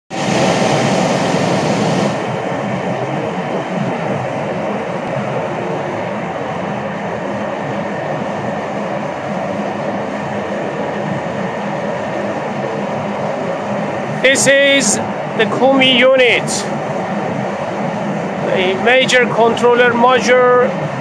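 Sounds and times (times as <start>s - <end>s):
drilling rig machinery drone: 0.1s - 21.0s.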